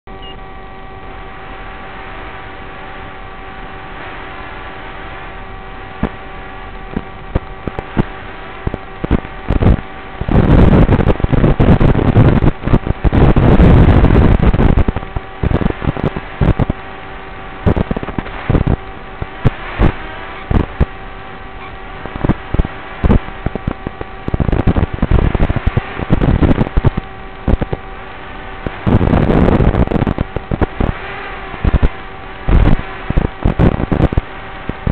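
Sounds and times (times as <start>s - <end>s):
electrical hum with tones: 0.0s - 34.9s
distorted crackling bursts: 0.1s - 34.9s.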